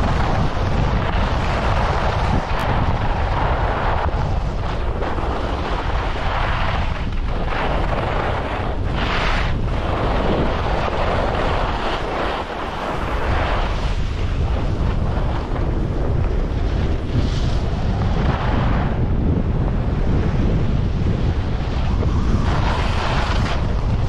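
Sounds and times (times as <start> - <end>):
skis scraping snow: 0.0 - 24.0
wind buffeting microphone: 0.0 - 24.0.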